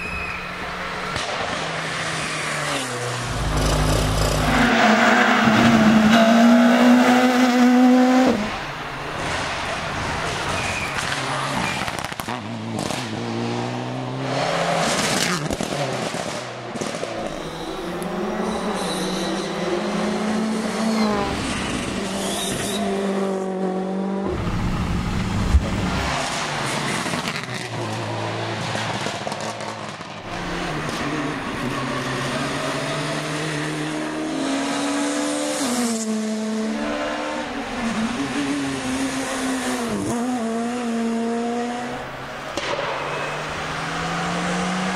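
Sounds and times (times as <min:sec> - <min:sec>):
rally car engines revving: 0:00.2 - 0:44.9.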